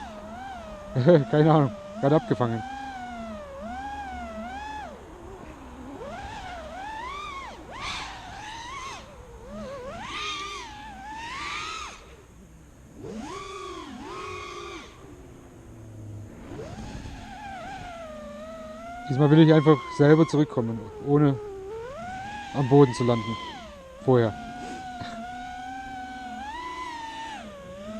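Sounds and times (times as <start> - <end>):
quadcopter motors whining: 0.0 - 27.9.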